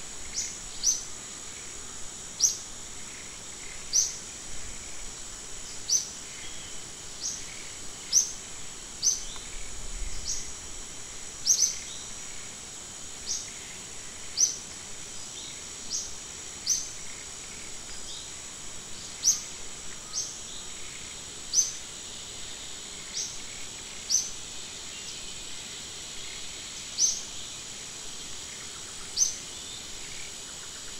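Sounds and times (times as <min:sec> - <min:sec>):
insect rising chirp: 0:00.0 - 0:30.9
insects droning: 0:00.0 - 0:30.9.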